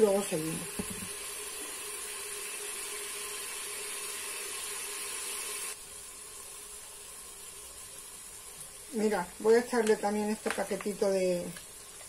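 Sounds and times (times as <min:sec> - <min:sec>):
onion sizzling in a pot: 0:00.0 - 0:12.0.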